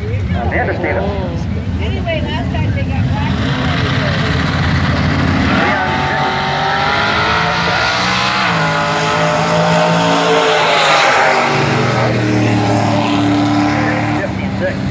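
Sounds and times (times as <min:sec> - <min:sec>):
racing cars accelerating hard: 0:00.0 - 0:14.9.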